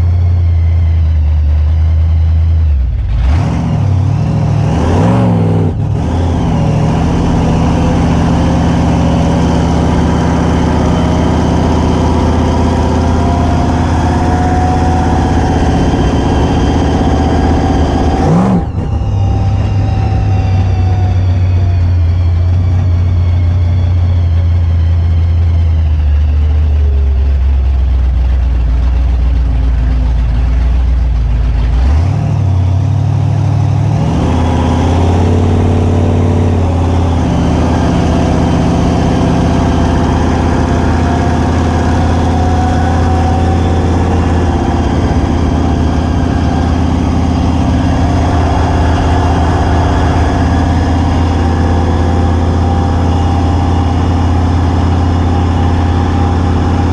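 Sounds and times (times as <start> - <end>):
car engine accelerating inside cabin: 0.0 - 56.9.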